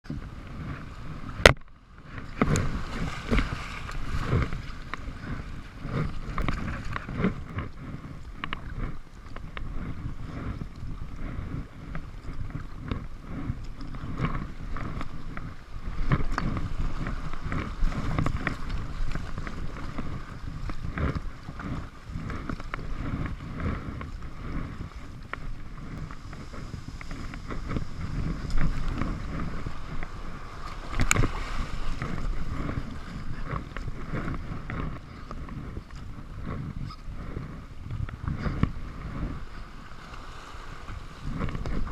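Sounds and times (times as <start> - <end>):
water splashing around kayak: 0.0 - 41.9
wind buffeting microphone: 0.0 - 41.9.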